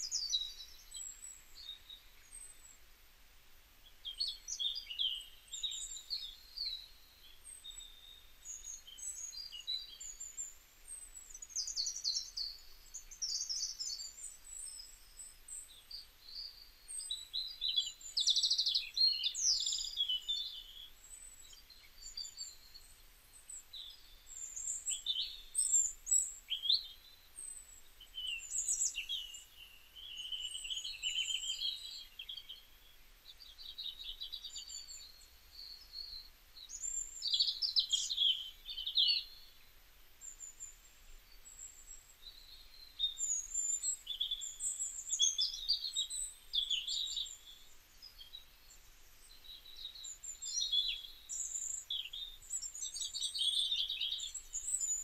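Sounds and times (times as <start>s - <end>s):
songbirds chirping and singing: 0.0s - 2.9s, 3.8s - 55.0s.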